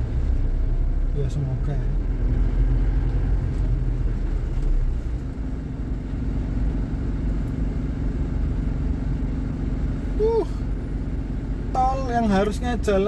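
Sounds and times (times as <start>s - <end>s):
diesel engine humming: 0.0s - 13.0s
road noise: 0.0s - 13.0s.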